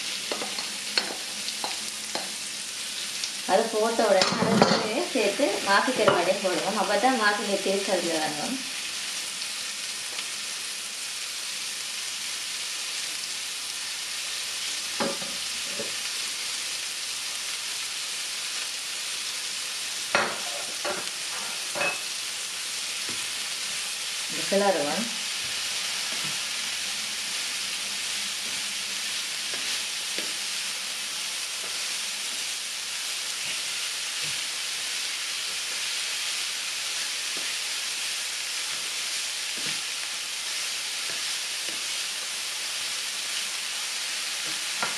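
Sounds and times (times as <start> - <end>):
food sizzling in oil: 0.0 - 44.9.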